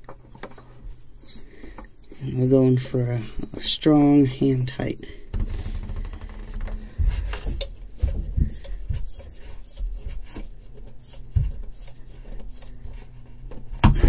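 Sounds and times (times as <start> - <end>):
hands rubbing on metal canister: 0.3 - 4.8, 6.8 - 13.8.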